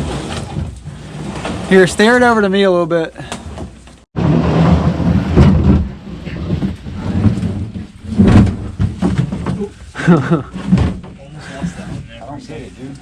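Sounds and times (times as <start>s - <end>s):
kayak hull scraping on rock: 0.0s - 2.4s, 3.4s - 12.5s.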